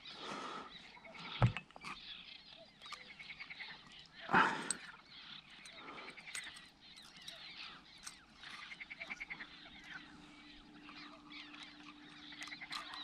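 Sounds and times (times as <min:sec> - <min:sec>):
low steady hum: 0:00.4 - 0:13.0.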